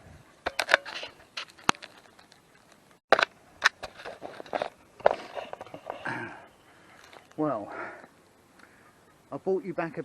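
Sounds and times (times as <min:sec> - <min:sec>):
rustling through undergrowth: 0:00.5 - 0:08.6.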